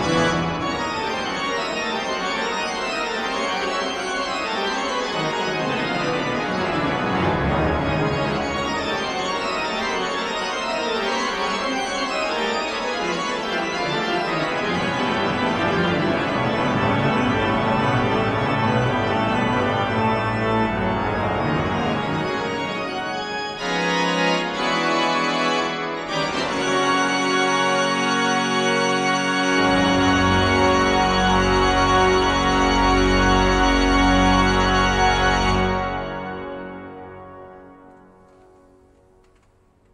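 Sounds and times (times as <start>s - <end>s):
pipe organ playing loud: 0.0s - 38.6s.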